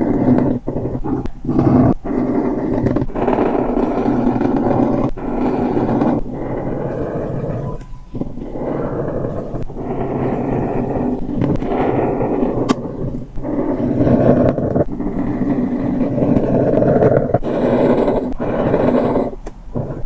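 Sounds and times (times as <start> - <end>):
cup rough growling rasp: 0.0 - 20.0.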